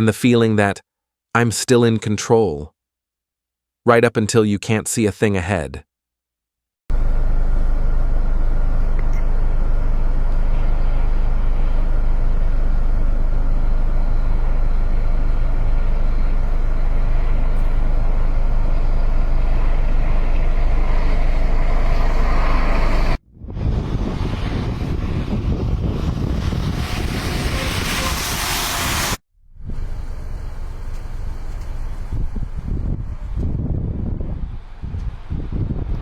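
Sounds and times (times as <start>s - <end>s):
road and wind noise: 6.9s - 36.0s
vehicle engine drone: 6.9s - 36.0s.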